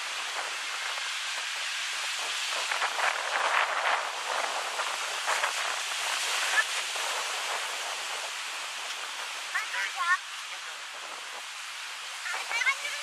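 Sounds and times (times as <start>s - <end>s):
waves breaking on sand: 0.0s - 13.0s.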